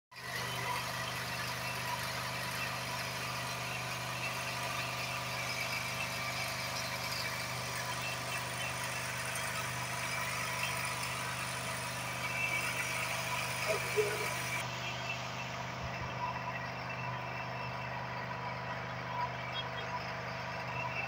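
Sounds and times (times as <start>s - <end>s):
engine hum: 0.2s - 21.0s.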